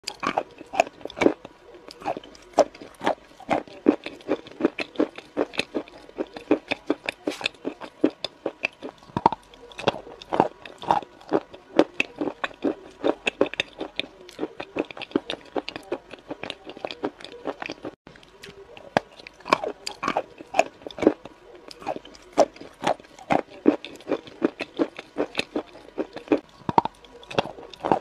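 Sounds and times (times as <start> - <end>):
crunchy chewing and biting: 0.0 - 28.0.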